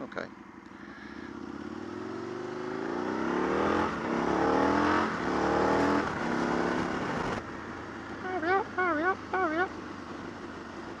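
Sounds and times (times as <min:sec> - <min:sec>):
motorcycle engine accelerating: 0:00.3 - 0:11.0.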